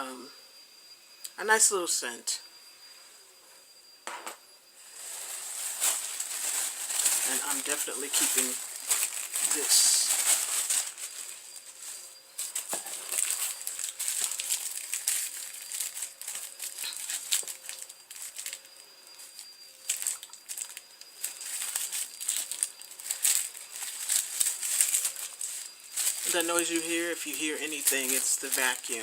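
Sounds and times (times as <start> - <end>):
vacuum cleaner whine: 0.0 - 29.0
paper packaging crinkling: 4.8 - 29.0.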